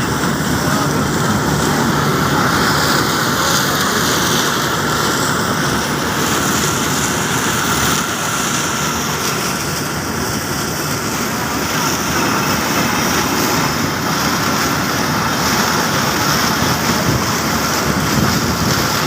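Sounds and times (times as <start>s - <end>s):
harvester running: 0.0s - 19.0s.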